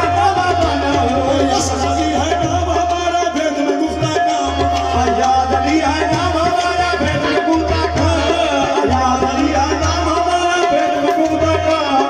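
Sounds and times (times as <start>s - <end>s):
devotional music: 0.0s - 12.0s
hand drums: 0.0s - 12.0s.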